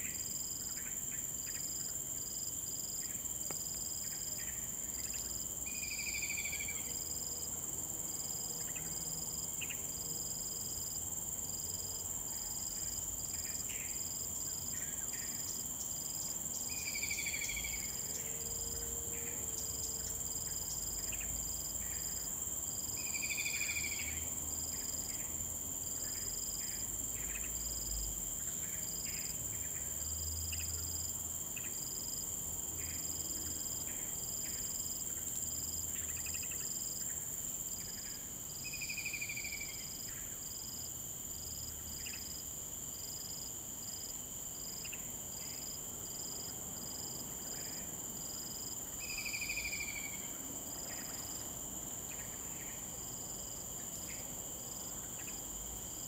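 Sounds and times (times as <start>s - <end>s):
insect pulsing chirp: 0.0s - 7.4s, 8.1s - 32.2s, 32.8s - 56.0s
insects trilling drone: 0.0s - 56.0s.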